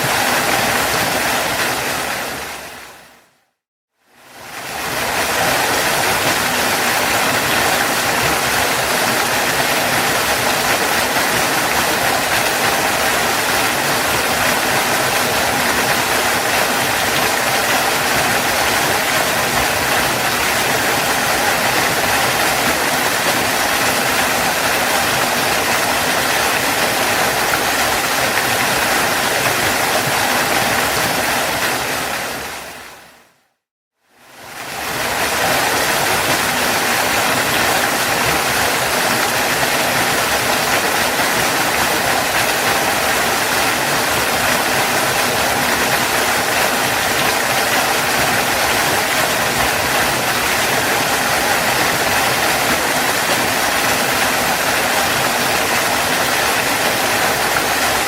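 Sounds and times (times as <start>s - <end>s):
waterfall rushing: 0.0s - 3.3s, 4.3s - 33.4s, 34.3s - 58.0s.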